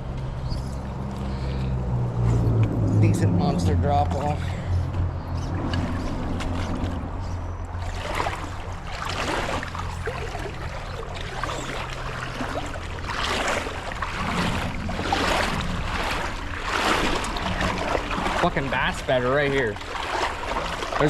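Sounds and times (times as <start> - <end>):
water swishing from wading: 0.0 - 21.0
creek water rushing: 0.9 - 21.0.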